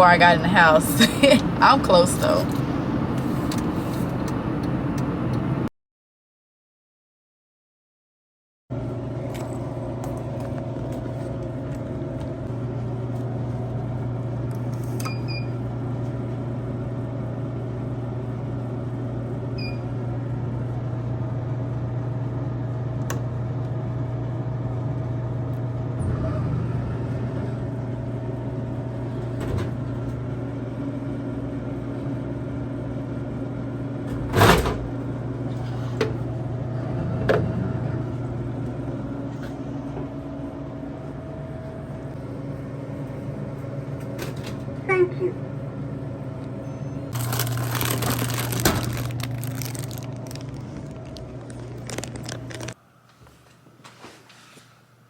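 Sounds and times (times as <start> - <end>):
low mechanical hum: 0.0 - 5.7, 8.7 - 55.0.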